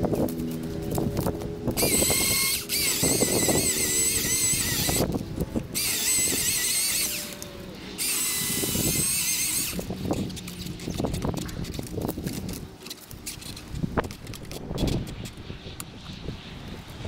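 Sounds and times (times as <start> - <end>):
chainsaw whining through branches: 0.0 - 13.9
branches cracking and rustling: 0.0 - 15.5.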